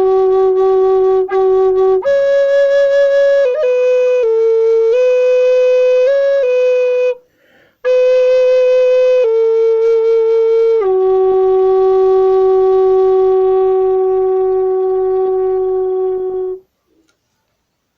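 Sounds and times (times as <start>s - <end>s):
wind instrument long notes: 0.0s - 16.6s.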